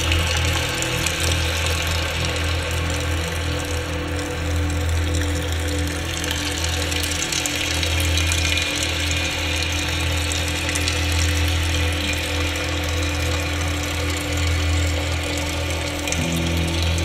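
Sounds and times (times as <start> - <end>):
ambient drone: 0.0 - 17.0.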